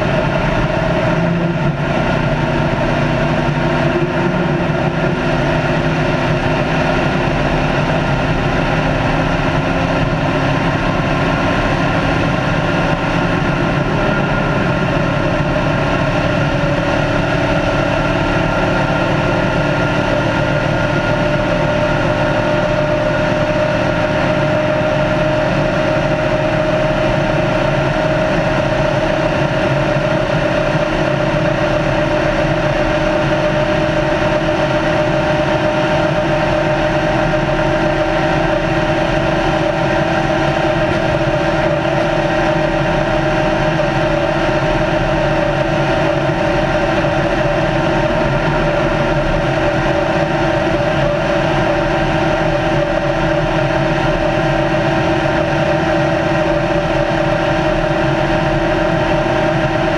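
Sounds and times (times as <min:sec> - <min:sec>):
race car engine running hard: 0:00.0 - 0:59.9
road and wind noise: 0:00.0 - 0:59.9.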